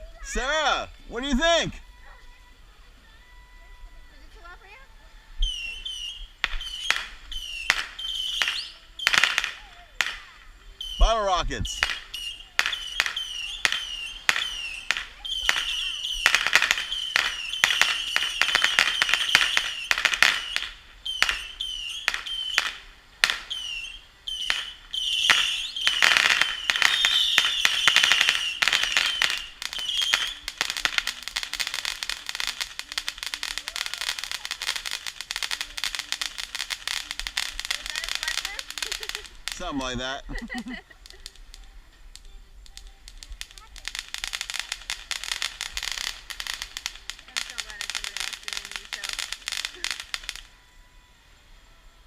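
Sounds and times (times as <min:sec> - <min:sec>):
bottle rockets whistling and popping: 0:05.4 - 0:50.6
rapid firework crackling: 0:05.4 - 0:50.6.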